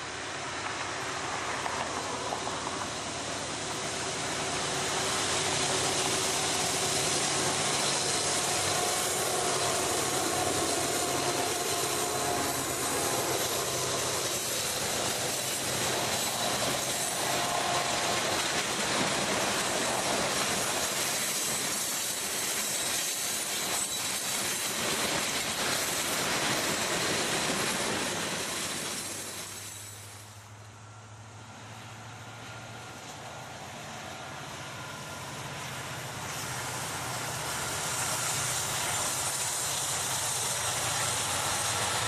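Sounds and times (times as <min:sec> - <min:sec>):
train wheels rushing on rails: 0:00.0 - 0:42.0.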